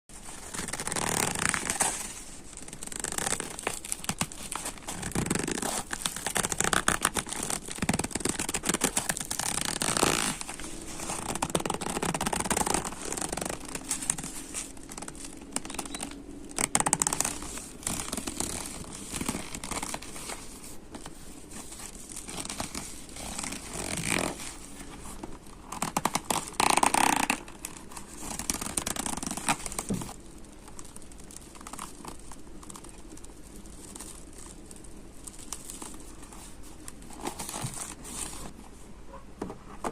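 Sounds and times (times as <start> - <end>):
leather creaking and crinkling: 0.2 - 38.5.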